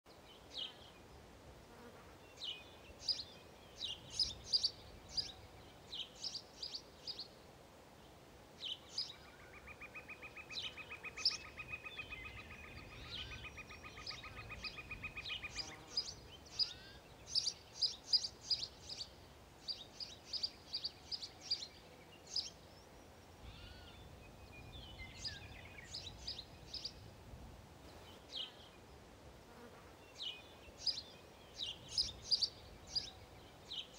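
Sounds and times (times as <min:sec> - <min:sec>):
sparrows chirping: 0:02.3 - 0:07.3, 0:08.6 - 0:27.1, 0:27.9 - 0:28.8, 0:30.0 - 0:33.9.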